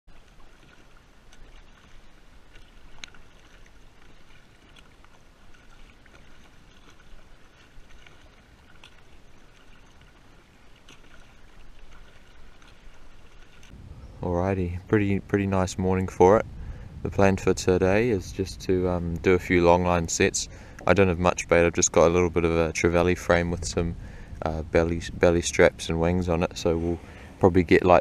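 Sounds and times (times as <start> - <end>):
water lapping against kayak hull: 0.1 - 28.0.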